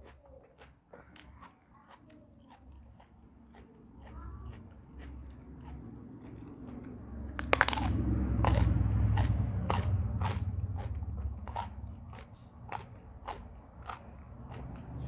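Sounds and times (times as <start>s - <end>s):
crunchy chewing: 0.0s - 15.0s
soft chewing clicks: 0.0s - 15.0s
crunchy bite into raw vegetable: 1.9s - 15.0s.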